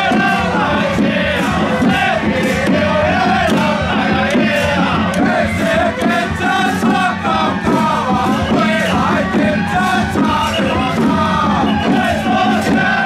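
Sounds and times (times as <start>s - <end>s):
people yelling and chanting: 0.0s - 13.0s
percussion strikes: 0.0s - 13.0s
procession music: 0.0s - 13.0s.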